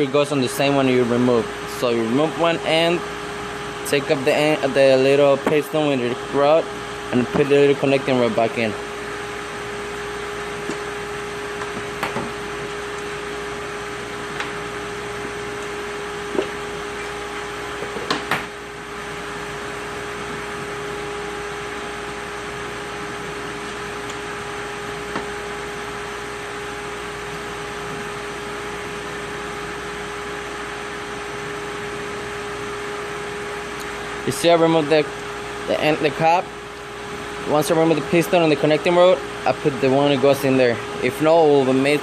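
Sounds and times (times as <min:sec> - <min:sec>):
steady background hum: 0:00.0 - 0:42.0.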